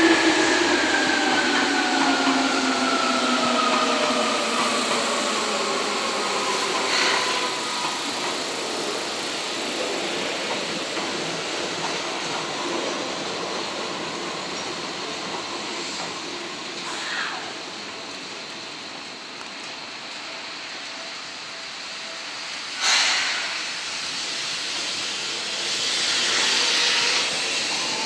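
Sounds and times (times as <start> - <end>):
steady hiss: 4.6 - 28.0.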